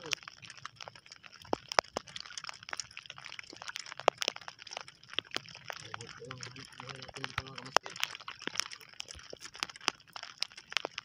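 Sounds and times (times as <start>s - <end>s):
faint steady hiss: 0.0s - 11.0s
sharp clicks and taps: 0.0s - 11.0s.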